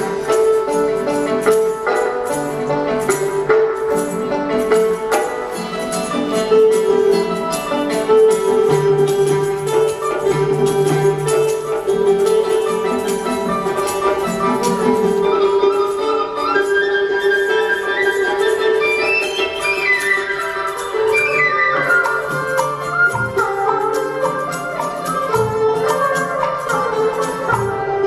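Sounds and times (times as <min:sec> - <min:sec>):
rapid clicking percussion: 0:00.0 - 0:28.0.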